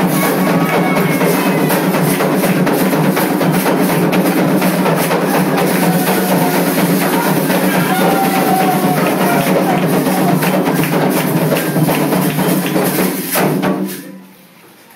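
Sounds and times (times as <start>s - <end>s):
hand drums fast rhythm: 0.0s - 13.8s.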